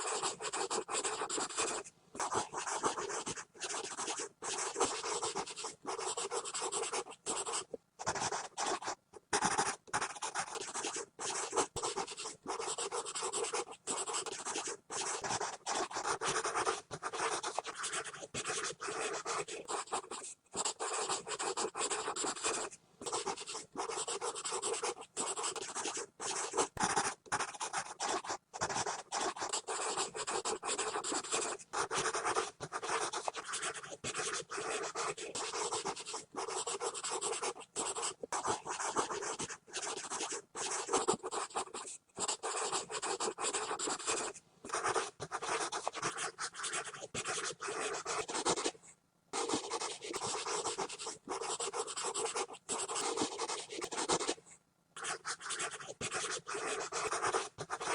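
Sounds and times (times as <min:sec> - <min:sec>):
pencil scribbling on paper: 0:00.0 - 0:48.8, 0:49.4 - 0:54.4, 0:55.0 - 0:57.9.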